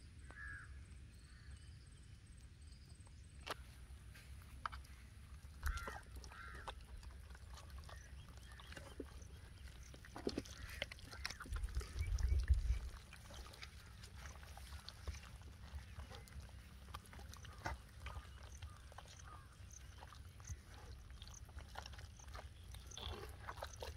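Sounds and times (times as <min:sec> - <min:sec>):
hands squishing wet batter: 0:03.4 - 0:23.9.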